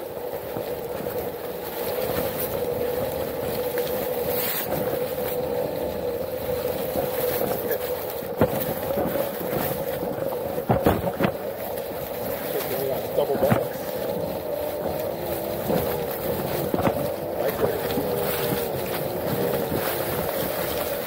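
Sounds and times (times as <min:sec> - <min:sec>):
electric hub motor whining: 0:00.0 - 0:21.0
tyre and trail noise: 0:00.0 - 0:21.0.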